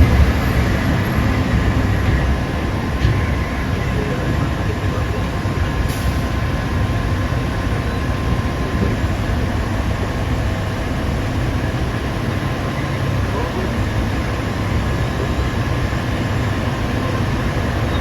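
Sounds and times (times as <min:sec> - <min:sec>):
diesel machinery engine drone: 0:00.0 - 0:18.0.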